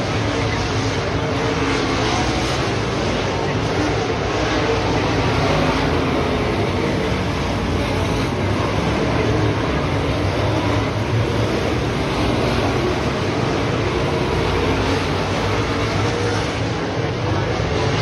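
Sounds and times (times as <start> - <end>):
race car engines running: 0.0 - 18.0.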